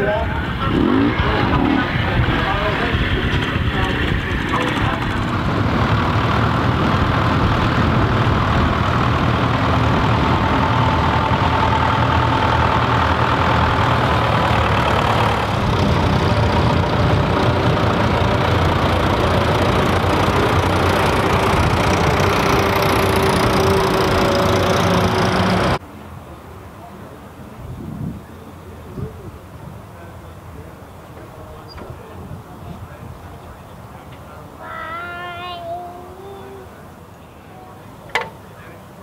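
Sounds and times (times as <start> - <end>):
tractor engines rumbling: 0.0 - 35.2, 35.8 - 39.0.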